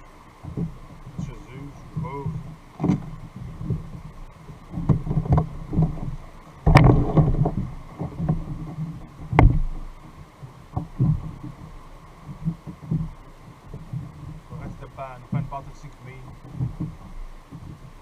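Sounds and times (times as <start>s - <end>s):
thumps on a kayak: 0.4s - 18.0s.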